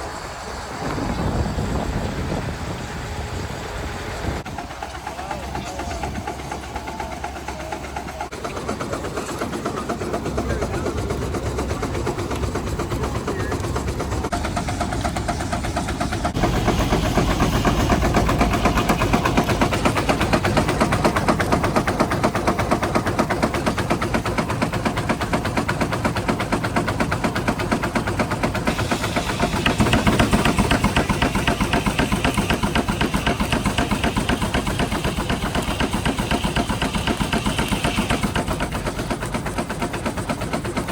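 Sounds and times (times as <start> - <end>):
steam engine exhaust thumping: 0.1 - 40.9.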